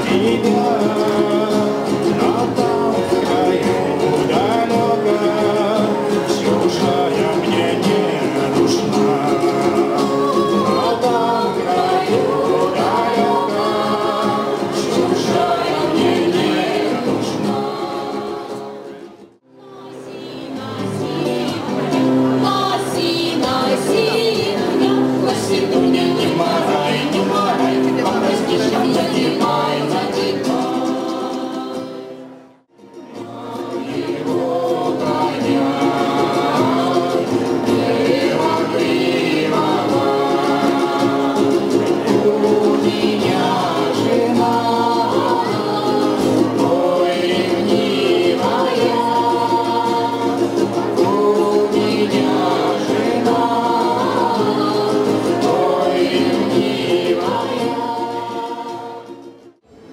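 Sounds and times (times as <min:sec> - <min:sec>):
women's choir singing in harmony: 0:00.0 - 0:32.4, 0:33.1 - 0:59.4
acoustic guitar: 0:00.0 - 0:59.9.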